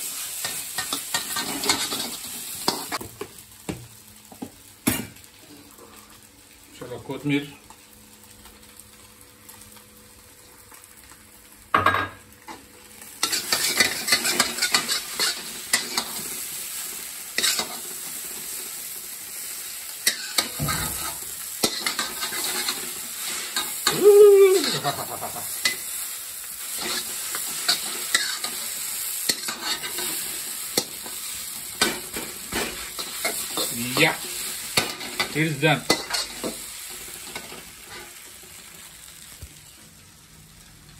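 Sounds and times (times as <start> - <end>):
hot pan sizzling: 0.0 - 40.9.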